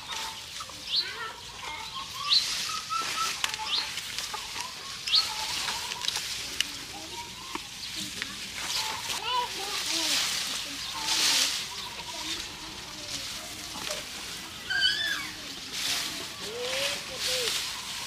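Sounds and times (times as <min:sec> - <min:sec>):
birds twittering: 0:00.0 - 0:18.0
cattle chewing leaves: 0:00.0 - 0:18.0.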